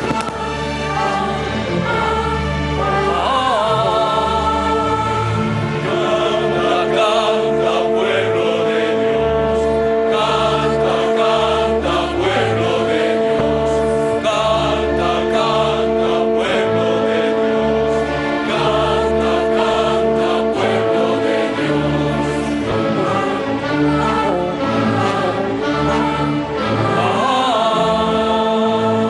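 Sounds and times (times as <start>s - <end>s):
choir singing held chords: 0.0s - 29.0s
orchestral accompaniment: 0.0s - 29.0s.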